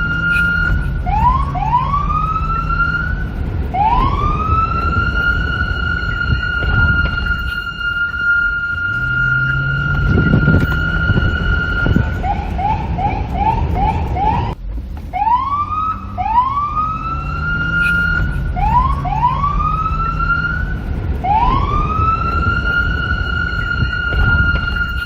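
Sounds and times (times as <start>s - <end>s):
low vehicle rumble: 0.0s - 25.0s
police siren: 0.0s - 25.0s.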